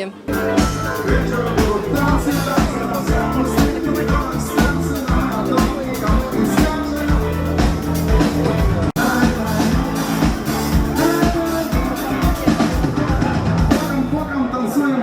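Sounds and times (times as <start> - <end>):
band music: 0.0 - 15.0
drum kit beat: 0.3 - 14.3
bass: 0.3 - 15.0.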